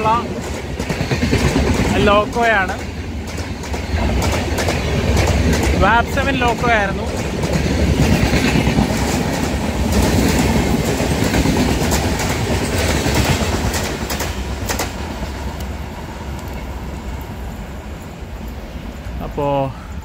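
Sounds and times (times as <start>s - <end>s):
train coaches rushing past: 0.0s - 20.0s.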